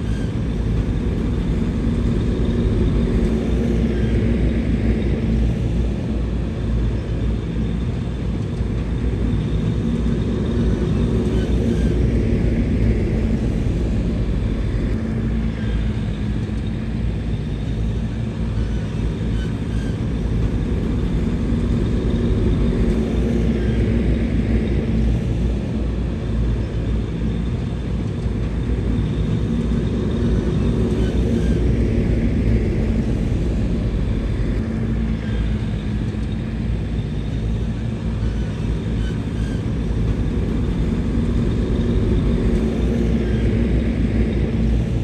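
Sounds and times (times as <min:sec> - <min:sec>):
heavy machinery diesel engine running: 0:00.0 - 0:45.0.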